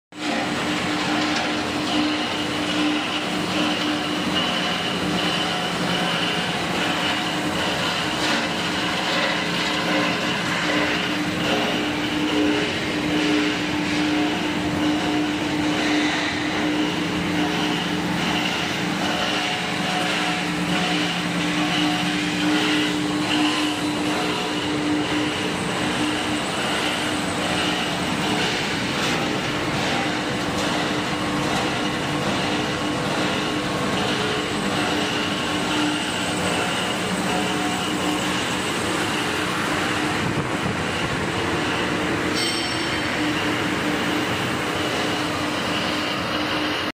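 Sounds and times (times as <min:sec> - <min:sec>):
wire granulator machine droning: 0:00.1 - 0:46.9.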